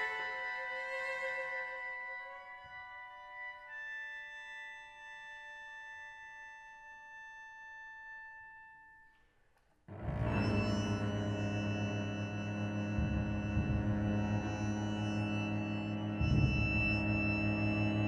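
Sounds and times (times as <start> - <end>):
chamber music sustained notes: 0.0 - 9.1, 9.9 - 18.0.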